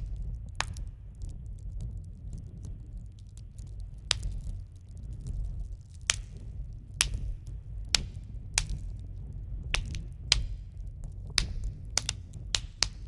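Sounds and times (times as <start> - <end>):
fire popping and snapping: 0.0 - 13.0
fire rumbling: 0.0 - 13.0.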